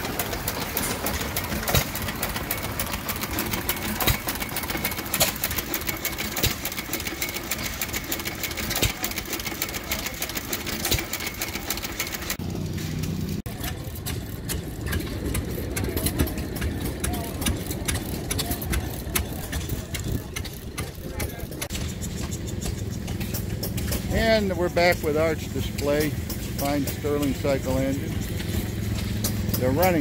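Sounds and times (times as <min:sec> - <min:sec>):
water pump clattering clicks: 0:00.0 - 0:12.4, 0:13.6 - 0:30.0
gas engine running: 0:00.0 - 0:30.0.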